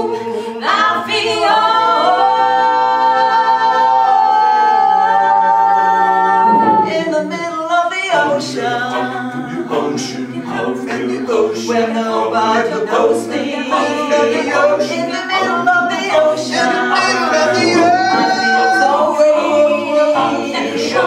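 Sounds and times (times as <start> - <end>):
a cappella group singing: 0.0 - 21.0.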